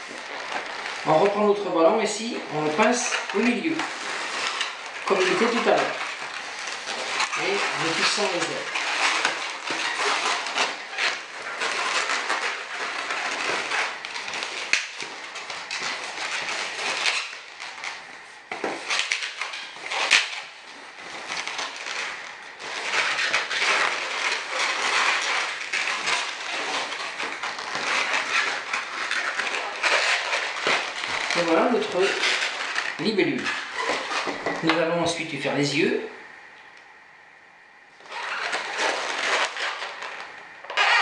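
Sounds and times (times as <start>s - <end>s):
balloons rubbing and squeaking: 0.0s - 36.2s, 38.0s - 41.0s.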